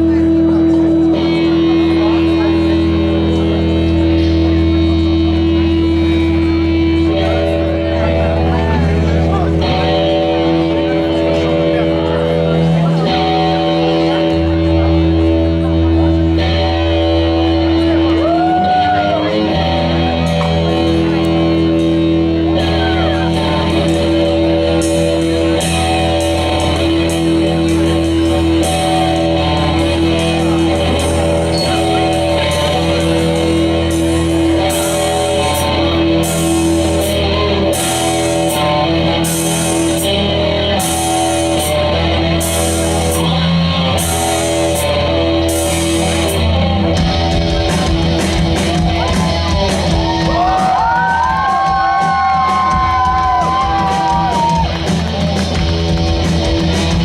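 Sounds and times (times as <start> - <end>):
guitar: 0.0 - 57.0
rock band playing: 0.0 - 57.0
sliding guitar notes: 0.0 - 57.0.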